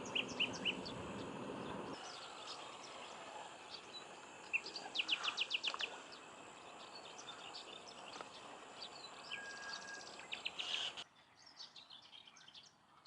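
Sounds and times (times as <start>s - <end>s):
steady background hiss: 0.0s - 11.0s
small birds chirping: 0.0s - 13.0s.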